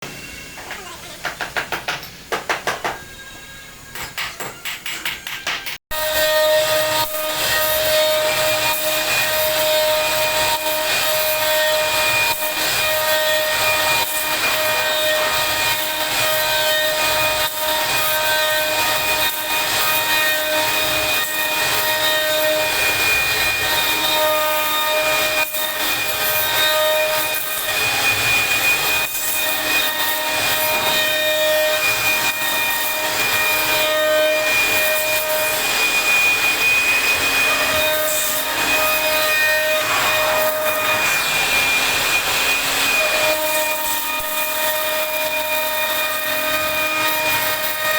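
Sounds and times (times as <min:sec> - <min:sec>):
router cutting wood: 0:05.9 - 0:47.9
router spindle whine: 0:06.5 - 0:47.9.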